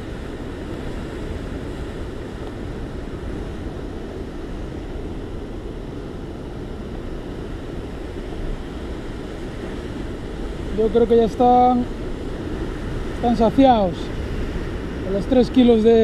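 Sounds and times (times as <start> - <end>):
sea surf washing: 0.0 - 16.0
wind on microphone: 0.0 - 16.0.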